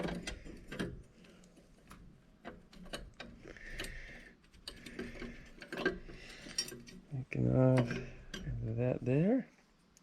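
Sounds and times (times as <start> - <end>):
metal parts and tools clicking: 0.0 - 8.7.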